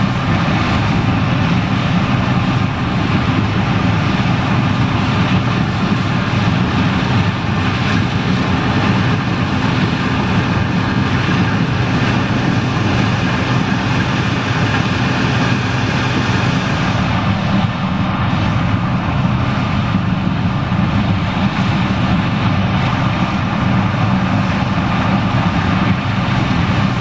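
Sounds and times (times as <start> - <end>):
combine harvester engine and machinery: 0.0 - 27.0.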